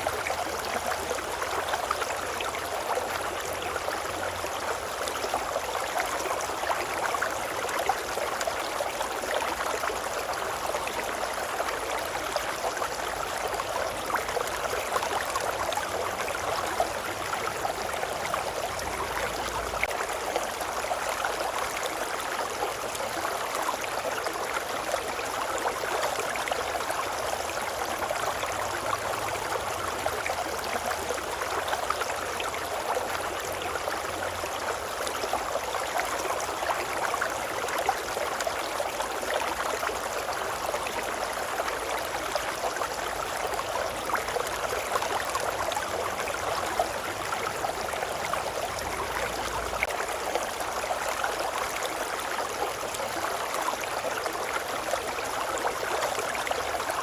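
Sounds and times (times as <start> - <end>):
brook water flowing: 0.0 - 57.0.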